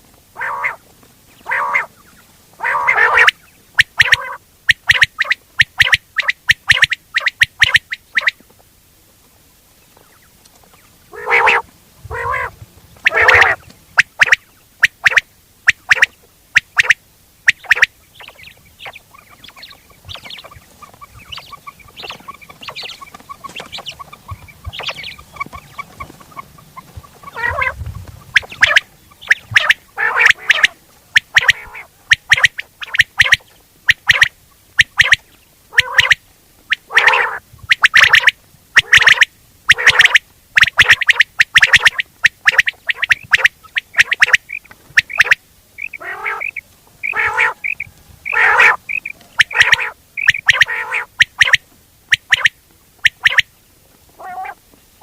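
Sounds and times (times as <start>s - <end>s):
quail calling: 0.0s - 8.5s, 10.0s - 54.6s.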